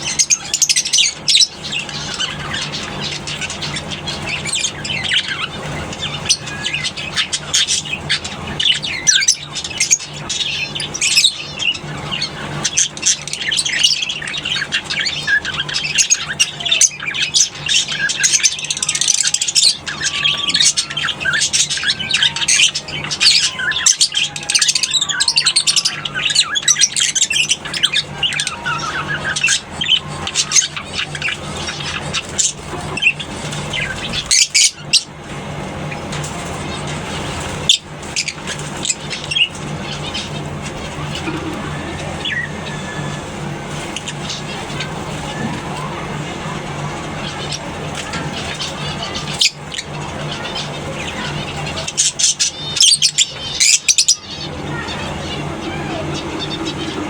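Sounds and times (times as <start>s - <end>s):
lovebirds chattering and squawking: 0.0s - 57.0s
steady low hum: 0.0s - 57.0s.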